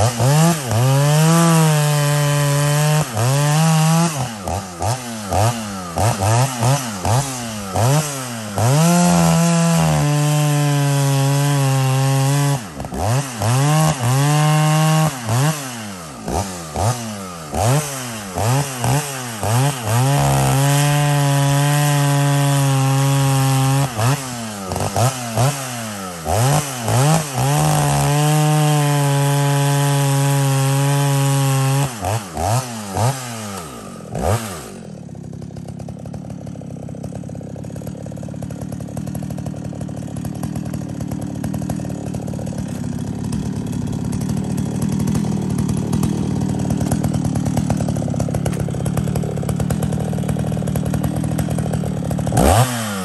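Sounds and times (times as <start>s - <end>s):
chainsaw idling: 0.0s - 53.0s
chainsaw revving: 0.0s - 53.0s.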